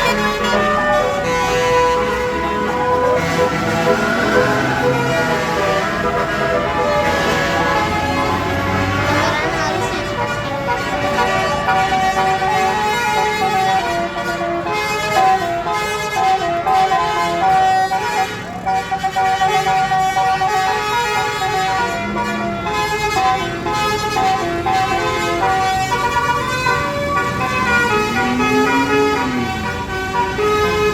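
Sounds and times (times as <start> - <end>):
musical air horn melody: 0.0 - 30.9.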